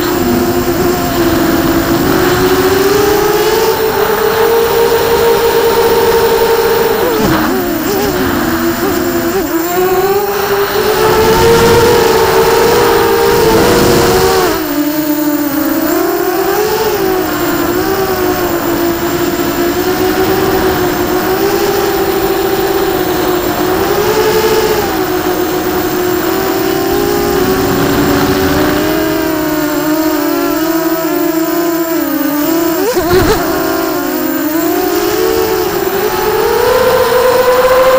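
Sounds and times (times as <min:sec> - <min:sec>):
quadcopter motors whining: 0:00.0 - 0:37.9.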